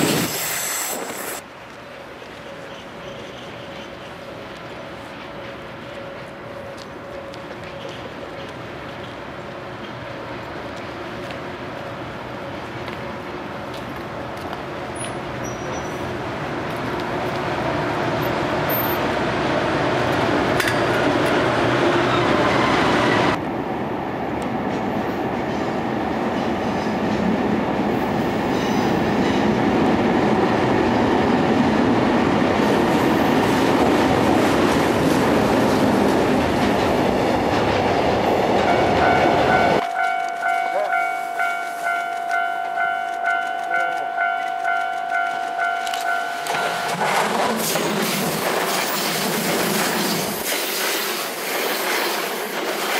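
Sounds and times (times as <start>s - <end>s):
freight train wheels on rails: 0.0s - 52.9s.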